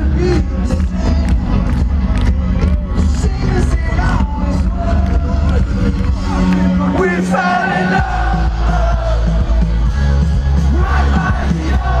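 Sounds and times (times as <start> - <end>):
crowd singing and yelling: 0.0 - 12.0
live band music over pa: 0.0 - 12.0.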